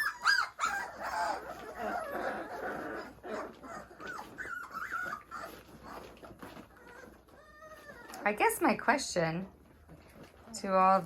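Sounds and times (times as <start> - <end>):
puppies whimpering and squeaking: 0.0 - 11.0.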